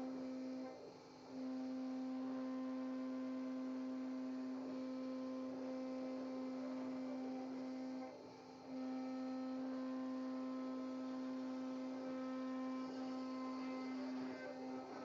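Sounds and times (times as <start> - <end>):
cnc router humming: 0.0 - 15.0.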